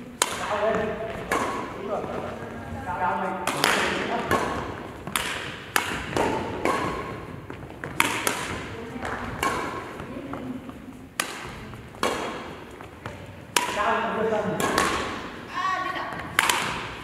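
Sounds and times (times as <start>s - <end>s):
racket striking shuttlecock: 0.1s - 2.4s, 3.4s - 15.5s, 16.1s - 17.0s.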